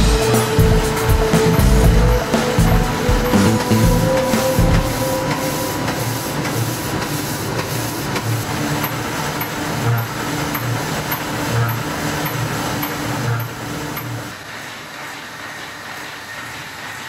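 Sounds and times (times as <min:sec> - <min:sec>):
printing press running: 0:00.0 - 0:17.0.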